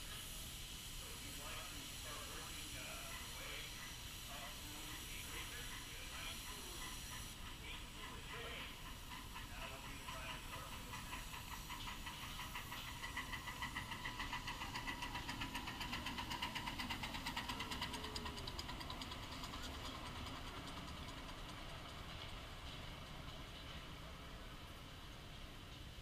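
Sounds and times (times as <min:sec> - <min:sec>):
miniature train clattering past: 0:00.0 - 0:26.0.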